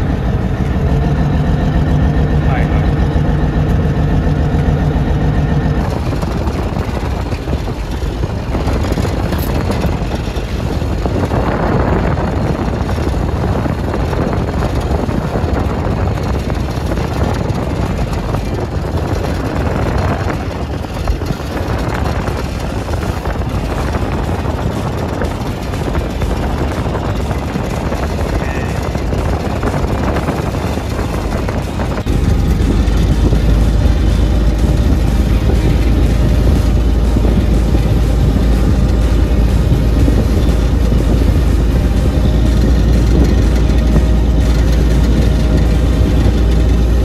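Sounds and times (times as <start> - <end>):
boat engine rumble: 0.0 - 47.0
steady pitched hum: 0.0 - 47.0
wind on microphone: 0.0 - 47.0.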